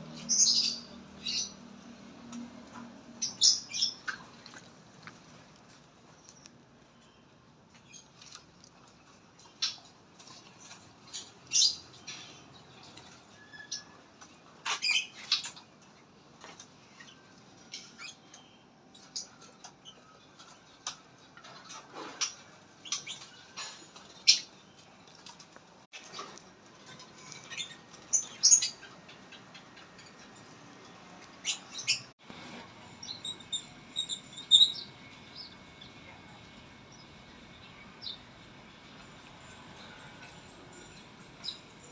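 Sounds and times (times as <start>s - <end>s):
small birds chirping: 0.0s - 15.8s, 16.4s - 41.9s.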